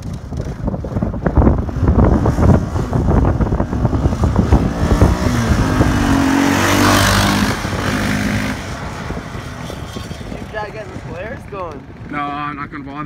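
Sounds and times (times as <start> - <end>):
atv engine revving: 0.0 - 13.0
wind buffeting microphone: 0.0 - 13.0.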